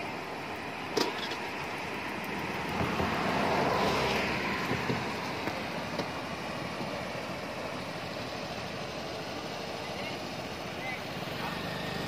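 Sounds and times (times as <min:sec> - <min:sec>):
stream water rushing over weir: 0:00.0 - 0:12.0.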